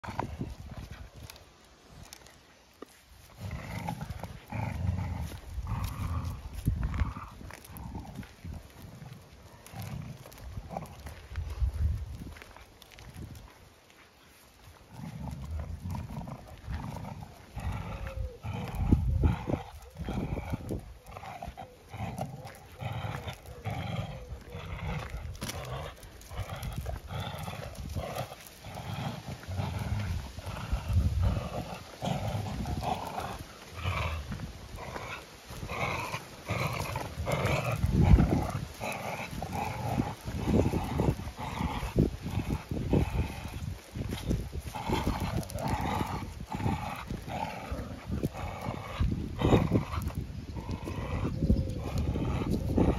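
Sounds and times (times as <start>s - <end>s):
dogs growling: 0.0s - 13.5s, 14.4s - 52.9s
paws scuffing on gravel: 0.0s - 52.9s.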